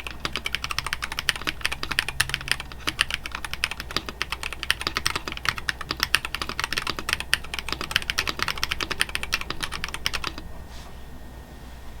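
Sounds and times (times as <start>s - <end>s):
mechanical keyboard typing: 0.0s - 10.5s.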